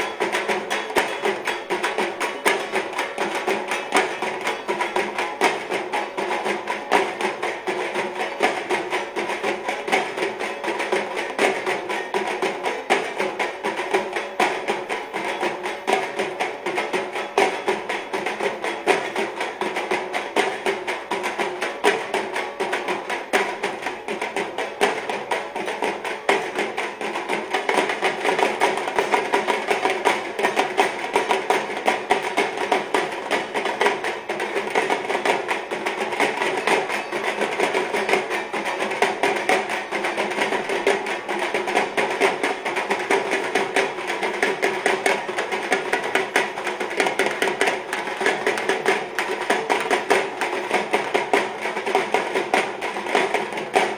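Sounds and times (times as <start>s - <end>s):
music with fast percussion: 0.0s - 53.9s.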